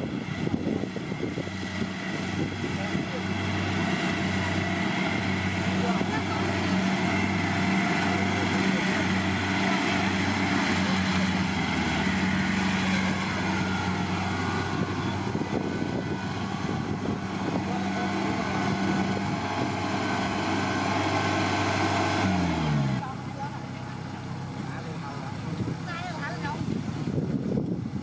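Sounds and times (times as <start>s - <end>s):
diesel engine drone: 0.0s - 28.0s.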